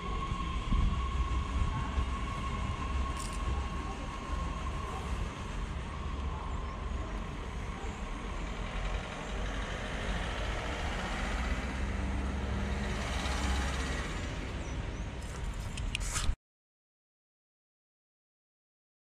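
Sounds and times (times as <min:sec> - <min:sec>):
train rumbling: 0:00.0 - 0:16.1.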